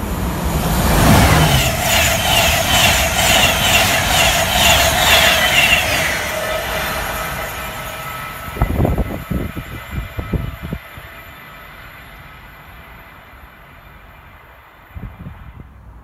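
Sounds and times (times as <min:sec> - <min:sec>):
train passing at speed: 0:00.0 - 0:16.0
wheels clattering on rail: 0:00.1 - 0:14.9.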